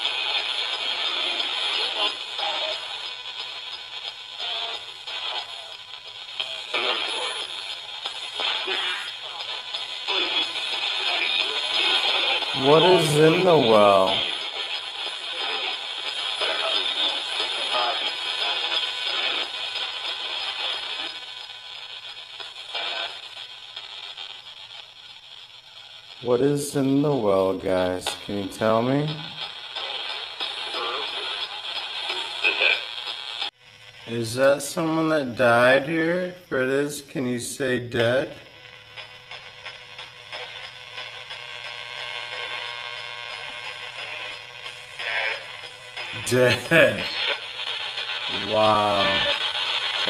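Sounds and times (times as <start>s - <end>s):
chopped radio music fragments: 0.0s - 50.0s
radio static hiss: 0.0s - 50.0s
snatches of broadcast voice: 0.1s - 21.2s, 22.6s - 23.3s, 26.2s - 38.4s, 39.0s - 50.0s.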